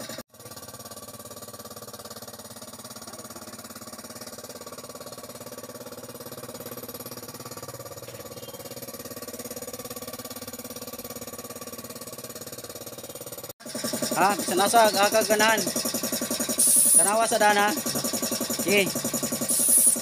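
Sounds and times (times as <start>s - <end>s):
motor running with pulsing hum: 0.0s - 20.0s.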